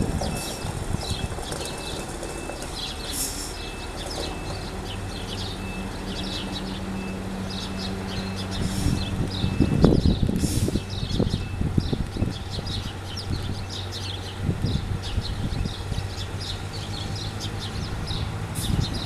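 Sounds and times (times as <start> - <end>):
birds chirping: 0.0 - 19.0
bus diesel engine idling: 0.0 - 19.0.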